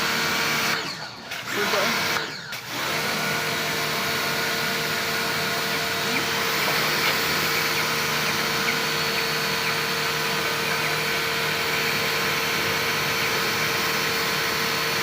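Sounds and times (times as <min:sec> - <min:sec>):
pressure washer running: 0:00.0 - 0:15.0.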